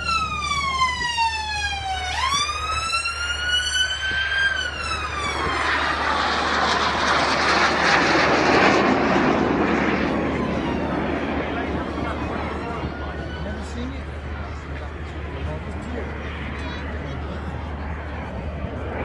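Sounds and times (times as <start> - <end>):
aircraft engine whine: 0.0 - 19.0.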